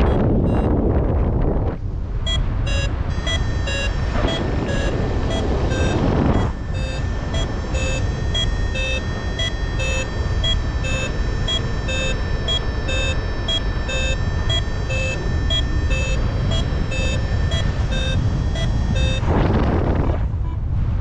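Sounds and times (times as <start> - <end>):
variometer beeping in quick pips: 0.0 - 0.8, 2.2 - 19.3
wind rushing on microphone: 0.0 - 21.0.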